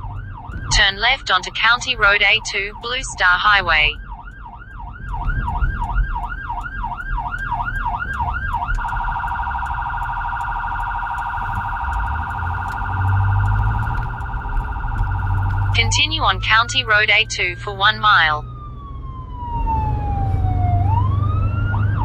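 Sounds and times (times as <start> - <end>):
electronic siren: 0.0 - 22.0.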